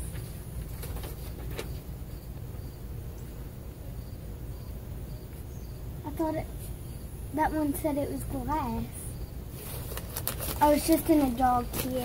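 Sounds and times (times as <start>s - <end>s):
crickets chirping faintly: 0.0s - 12.0s.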